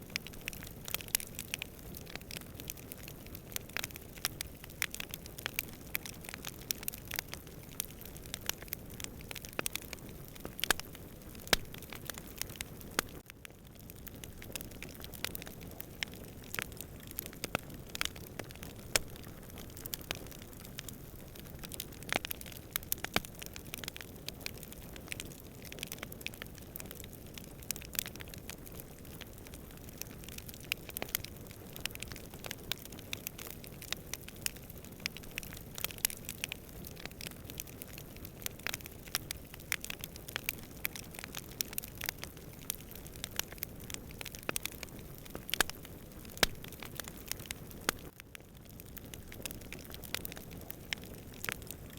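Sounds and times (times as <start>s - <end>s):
campfire crackling and popping: 0.0s - 51.9s
low rumble of burning: 0.0s - 51.9s.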